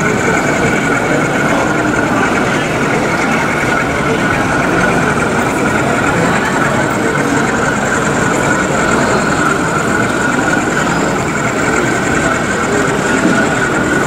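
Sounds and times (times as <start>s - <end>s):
exhibition hall din: 0.0s - 14.0s
model train running past: 0.0s - 14.0s.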